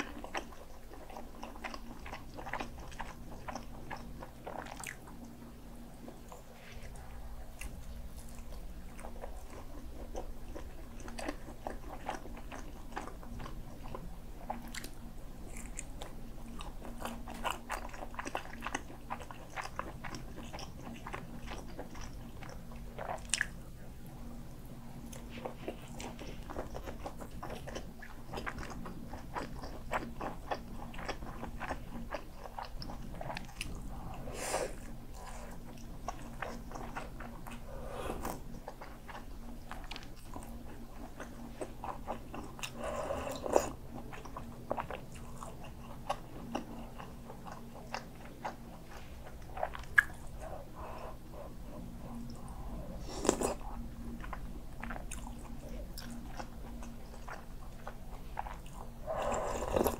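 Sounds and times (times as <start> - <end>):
biting and chewing sausage: 0.0 - 5.4, 6.0 - 59.9
faint low hum: 0.0 - 59.9.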